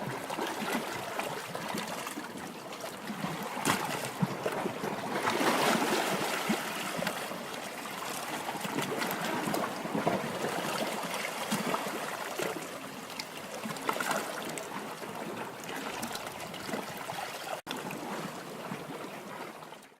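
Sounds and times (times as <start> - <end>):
sea water splashing around boat: 0.0 - 20.0.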